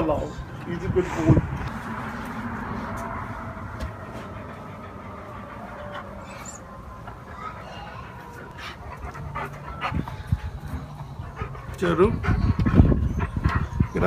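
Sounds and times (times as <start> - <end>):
dog panting heavily: 0.0 - 14.0.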